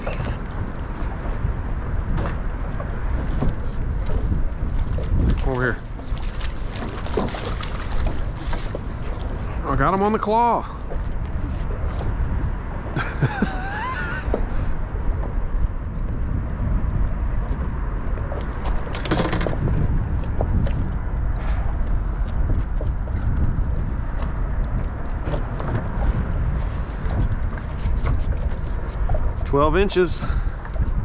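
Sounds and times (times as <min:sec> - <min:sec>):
knocks and clatter on boat deck: 0:00.0 - 0:16.2, 0:16.8 - 0:29.6
wind buffeting microphone: 0:00.0 - 0:31.0.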